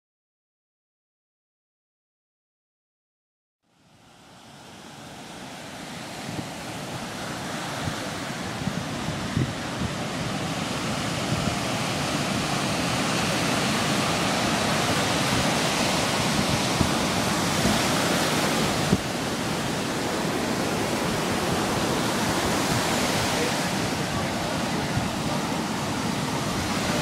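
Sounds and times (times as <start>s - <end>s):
ocean waves breaking on beach: 3.7s - 27.0s.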